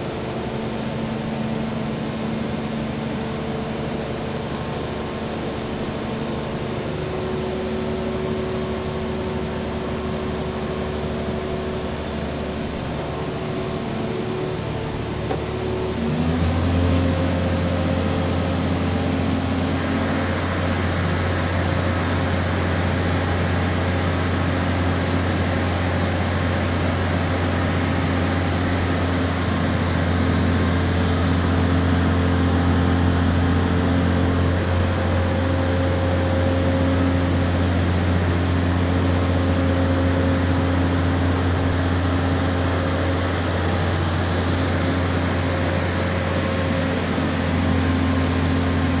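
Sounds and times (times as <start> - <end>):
truck engine humming: 3.0 - 49.0.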